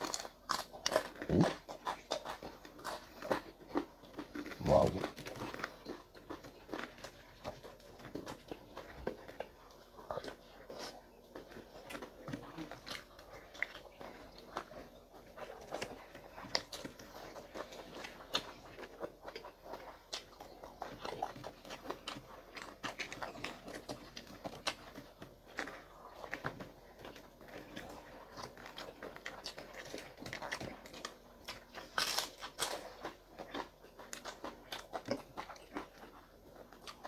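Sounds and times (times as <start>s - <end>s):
chewing and crunchy bites: 0.0s - 37.0s.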